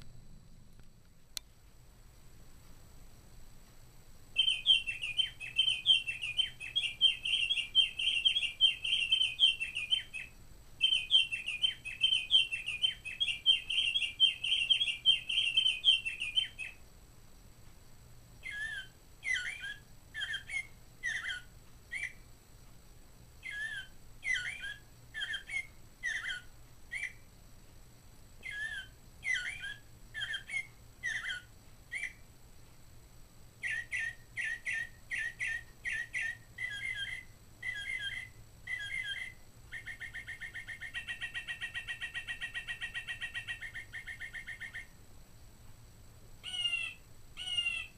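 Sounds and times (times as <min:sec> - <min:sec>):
clock playing recorded bird songs: 0:01.4 - 0:45.1, 0:46.4 - 0:47.9.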